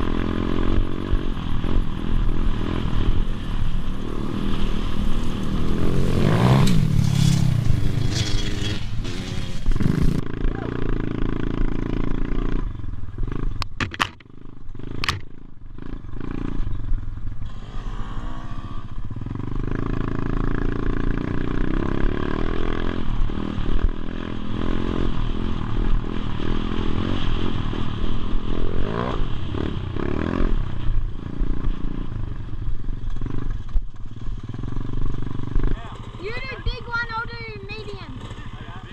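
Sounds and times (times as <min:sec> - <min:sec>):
motorbike engine revving: 0:00.0 - 0:32.2.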